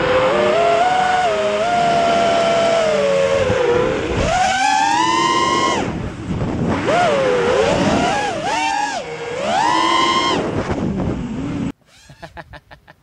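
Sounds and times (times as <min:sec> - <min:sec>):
quadcopter motors whining: 0:00.0 - 0:12.3.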